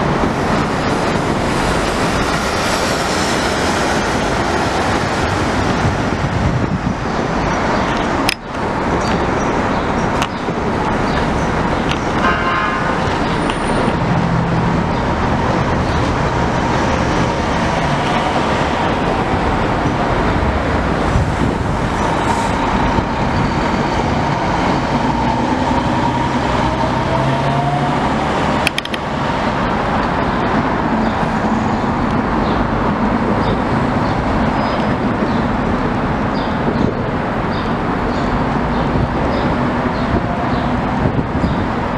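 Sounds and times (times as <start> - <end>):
traffic noise: 0.0 - 41.9.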